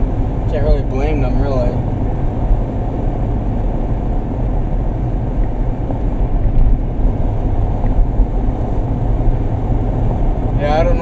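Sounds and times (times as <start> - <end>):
van road and engine rumble: 0.0 - 11.0.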